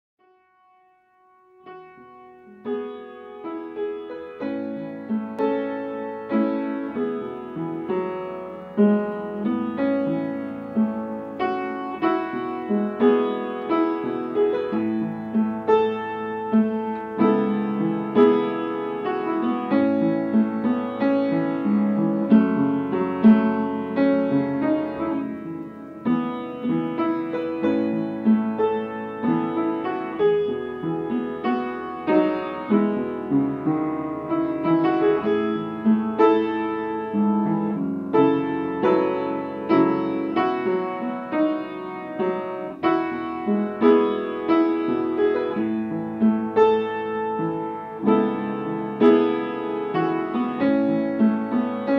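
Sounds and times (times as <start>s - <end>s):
solo piano music: 0.2s - 51.9s.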